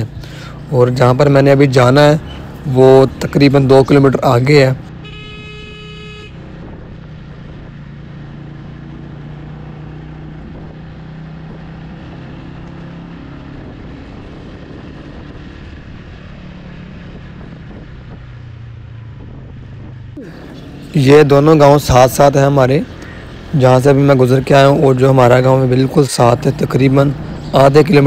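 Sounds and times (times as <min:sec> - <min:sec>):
motorcycle engine cruising: 0:00.0 - 0:28.0.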